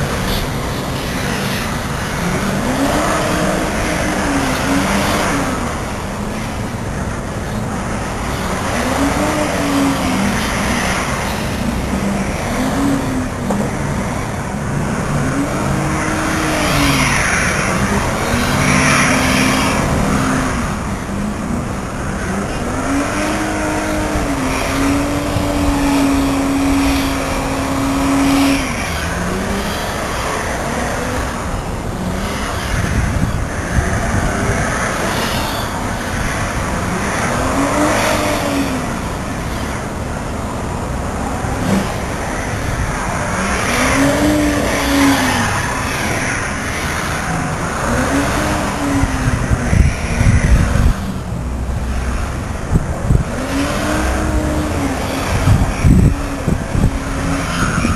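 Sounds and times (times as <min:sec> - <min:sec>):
car engine revving: 0:00.0 - 0:57.9
road noise hiss: 0:00.0 - 0:57.9.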